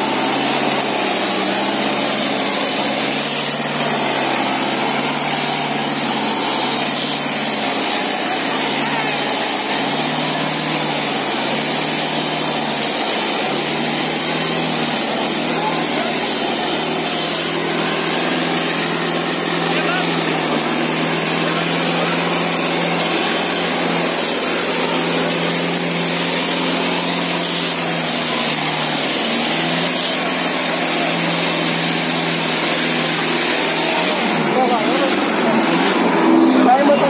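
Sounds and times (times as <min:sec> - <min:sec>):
tractor diesel engine under load: 0:00.0 - 0:37.0.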